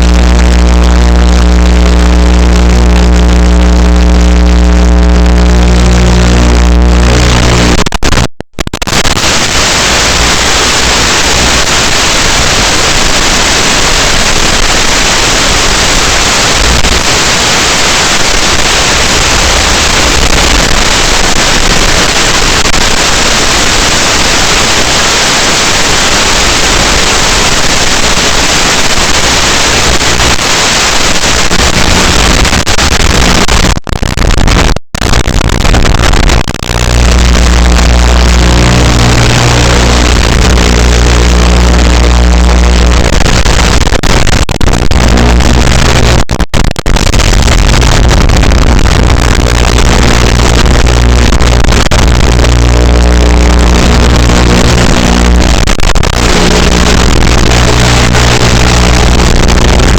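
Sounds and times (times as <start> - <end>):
loud static hiss: 0.0 - 59.9.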